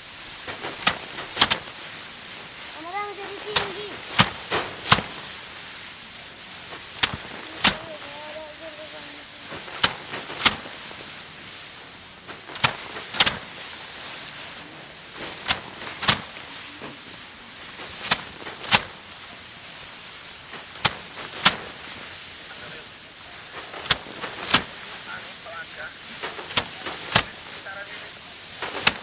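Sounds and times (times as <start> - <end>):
rice bundles whacking board: 0.0 - 29.0
steady hiss: 0.0 - 29.0.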